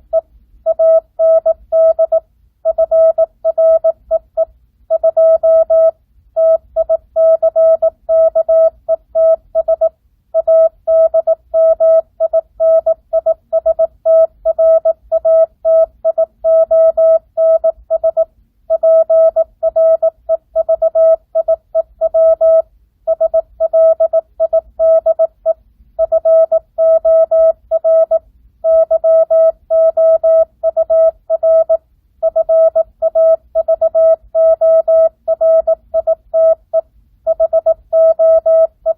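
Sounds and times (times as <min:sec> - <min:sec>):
morse code tone: 0:00.0 - 0:38.9.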